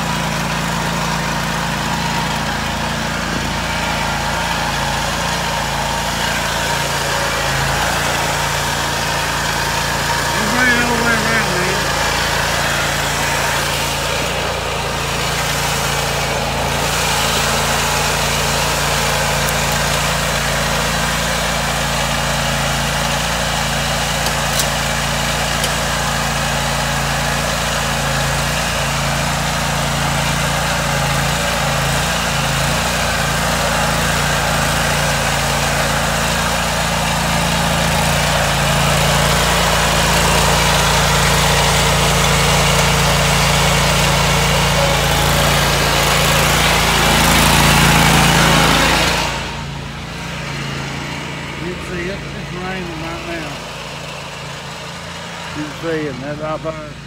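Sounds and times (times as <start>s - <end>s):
mower engine running: 0.0s - 57.0s.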